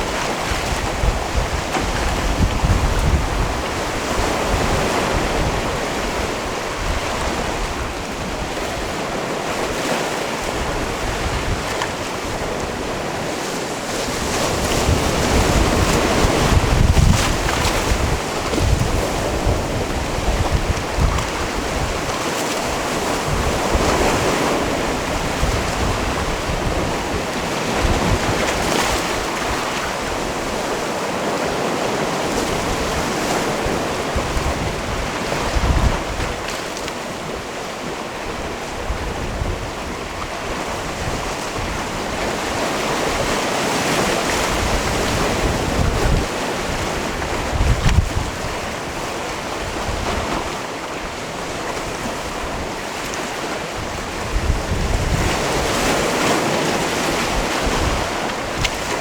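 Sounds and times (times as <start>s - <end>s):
waves washing against rocks: 0.0s - 59.0s
wind buffeting microphone: 0.0s - 59.0s.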